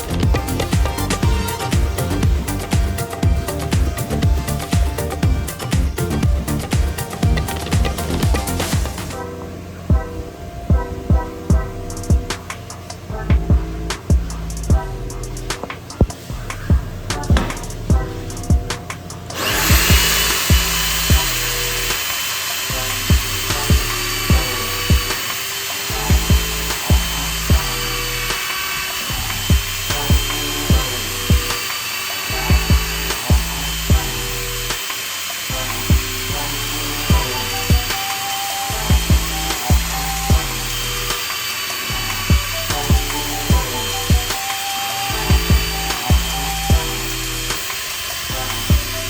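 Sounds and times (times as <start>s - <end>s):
drill press motor whine: 0.0s - 9.8s, 18.8s - 49.0s
background music with beat: 0.0s - 49.0s.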